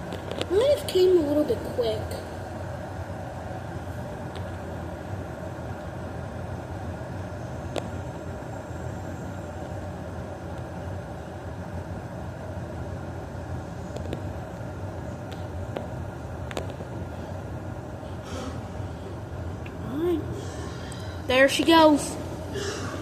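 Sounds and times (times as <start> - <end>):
electric kettle heating water: 0.0 - 23.0.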